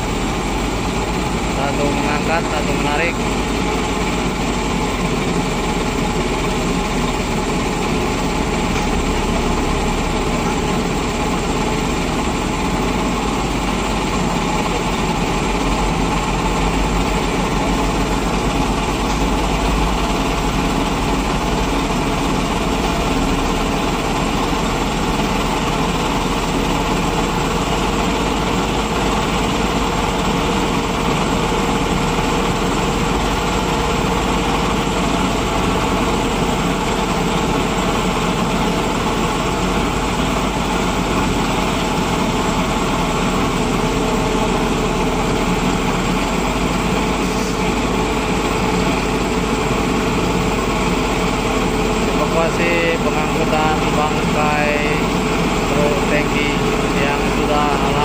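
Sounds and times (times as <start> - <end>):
heavy vehicle engine idling: 0.0 - 58.0.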